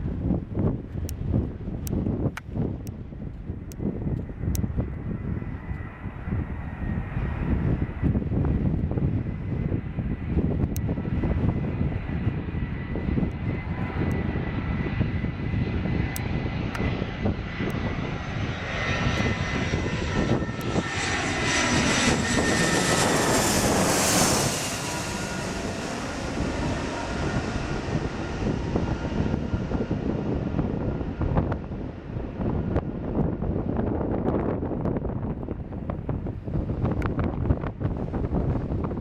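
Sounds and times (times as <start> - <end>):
jet airliner passing close by: 0.0 - 39.0.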